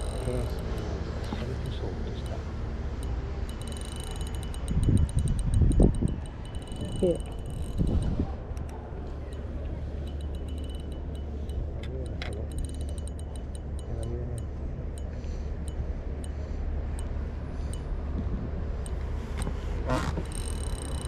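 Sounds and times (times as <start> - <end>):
sharp ticks and clicks: 0.0 - 21.0.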